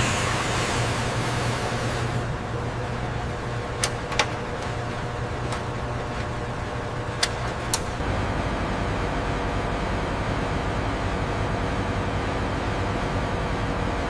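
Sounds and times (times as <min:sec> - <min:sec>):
industrial machinery hum: 0:00.0 - 0:14.0.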